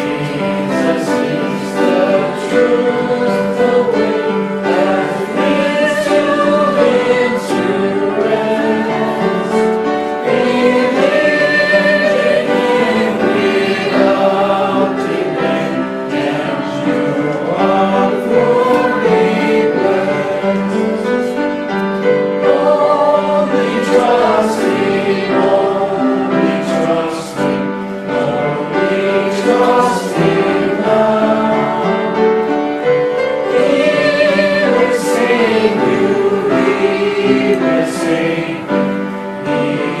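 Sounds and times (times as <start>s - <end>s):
congregation singing a hymn: 0.0s - 40.0s.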